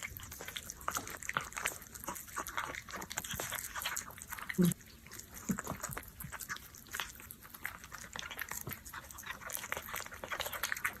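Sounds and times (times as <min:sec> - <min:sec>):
cat chewing wet food: 0:00.0 - 0:11.0.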